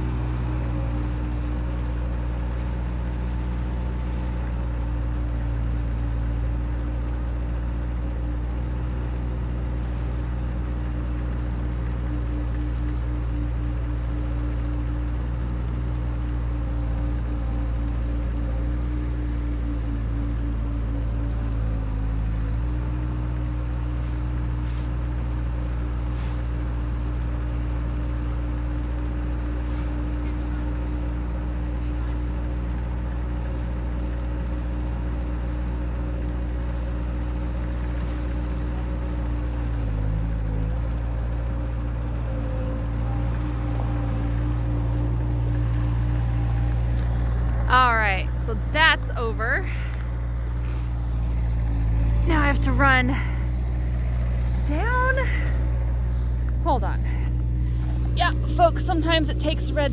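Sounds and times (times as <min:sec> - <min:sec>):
loader engine humming: 0:00.0 - 0:59.9.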